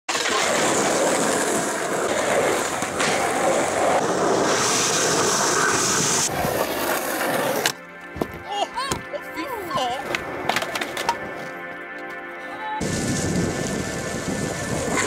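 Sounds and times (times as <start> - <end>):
skateboard wheels rolling on asphalt: 0.1 - 8.4, 9.9 - 12.2, 12.8 - 15.0.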